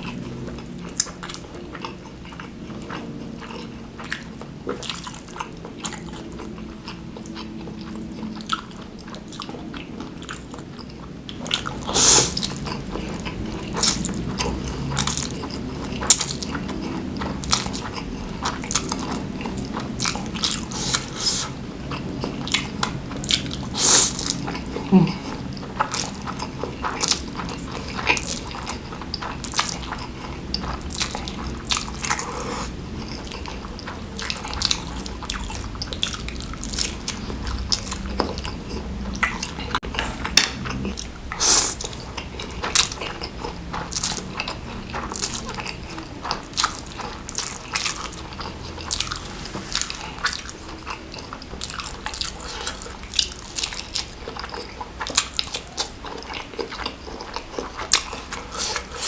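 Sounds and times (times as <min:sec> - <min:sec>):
wet chewing of food: 0:00.0 - 0:59.0.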